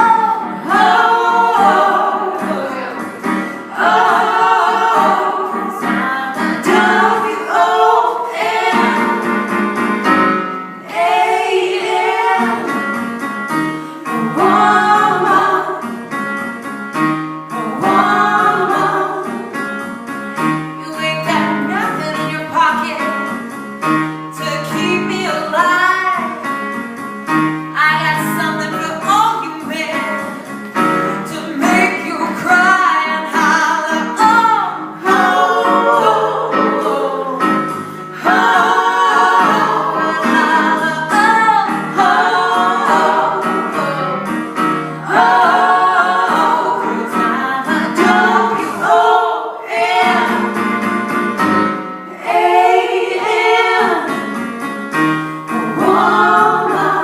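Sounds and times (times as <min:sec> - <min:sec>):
instrumental accompaniment: 0:00.0 - 0:57.0.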